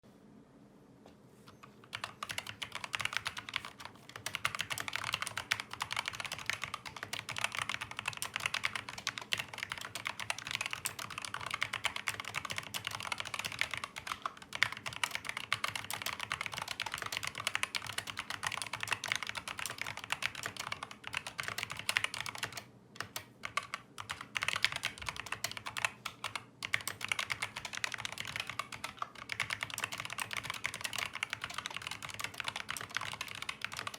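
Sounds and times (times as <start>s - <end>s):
fast mechanical keyboard typing: 1.8s - 33.9s.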